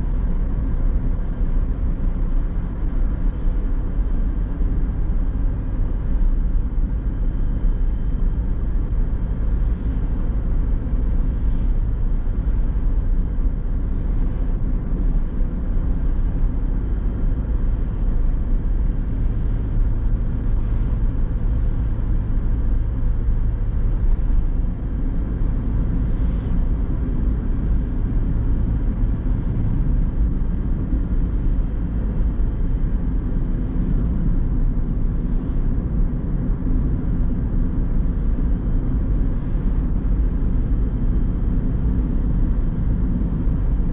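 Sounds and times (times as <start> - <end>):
car engine hum: 0.0 - 43.9.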